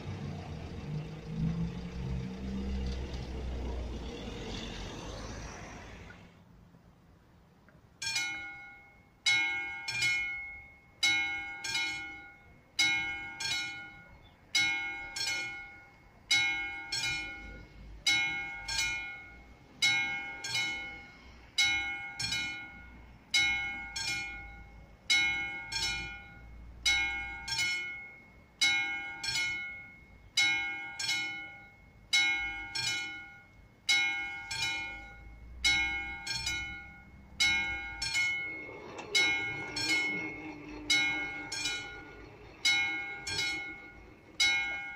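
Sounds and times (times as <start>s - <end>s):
level crossing warning bell: 0.0s - 5.1s, 8.0s - 44.9s.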